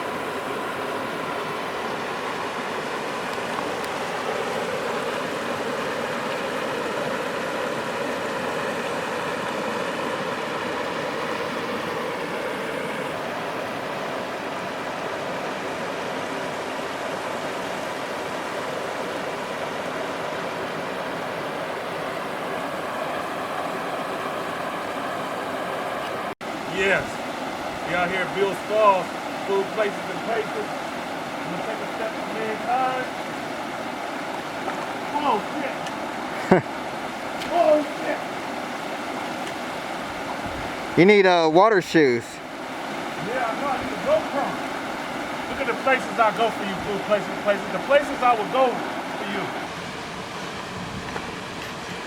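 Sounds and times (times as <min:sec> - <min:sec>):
waterfall and creek rushing: 0:00.0 - 0:52.0.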